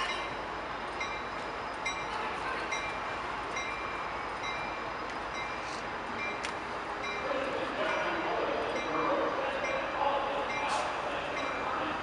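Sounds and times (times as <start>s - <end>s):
diesel train rumbling: 0.0s - 12.0s.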